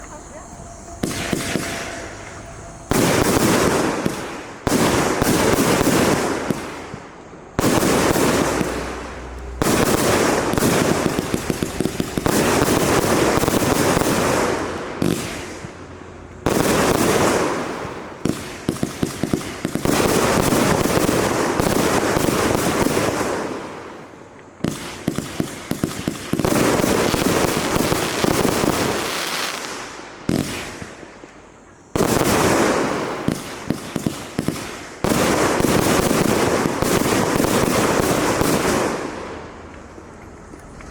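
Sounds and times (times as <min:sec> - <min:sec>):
firework hissing and crackling: 0:00.0 - 0:40.8.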